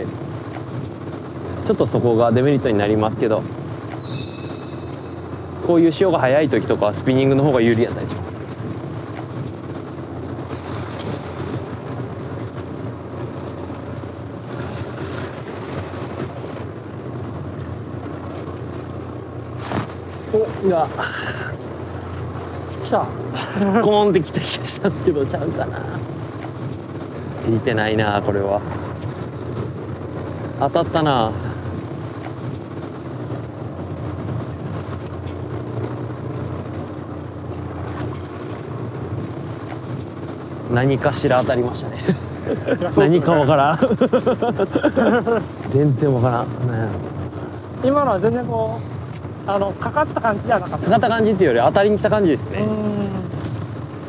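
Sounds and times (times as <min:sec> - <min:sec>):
boat engine humming: 0:00.0 - 0:54.0
water noise: 0:00.0 - 0:54.0
wind: 0:00.0 - 0:54.0.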